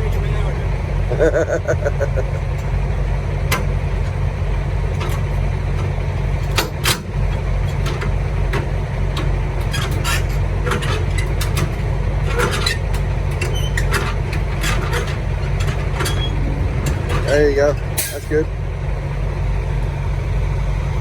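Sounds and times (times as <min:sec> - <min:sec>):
truck diesel engine running: 0:00.0 - 0:21.0.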